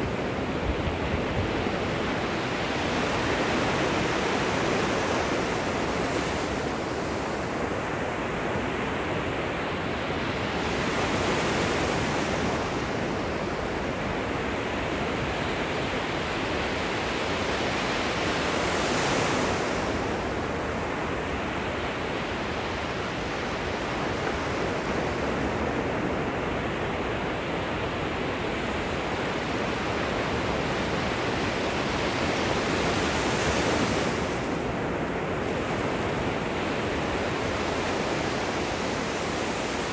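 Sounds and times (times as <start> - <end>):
gentle ocean surf: 0.0 - 39.9.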